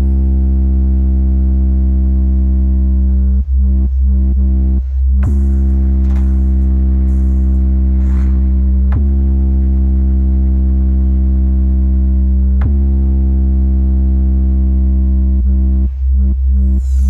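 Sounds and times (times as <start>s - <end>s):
deep electronic bass drone: 0.0s - 17.0s.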